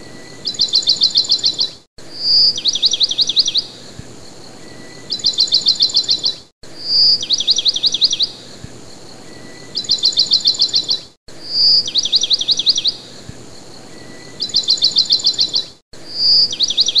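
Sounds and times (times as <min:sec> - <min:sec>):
songbird singing whistled phrase: 0:00.0 - 0:03.7, 0:04.6 - 0:08.4, 0:09.2 - 0:13.0, 0:13.9 - 0:17.0.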